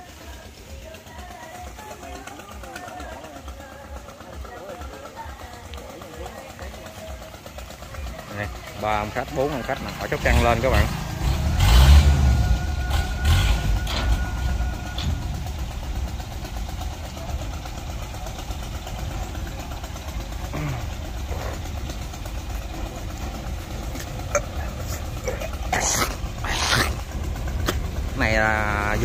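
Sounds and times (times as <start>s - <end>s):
walking tractor engine rumbling: 0.0s - 29.0s.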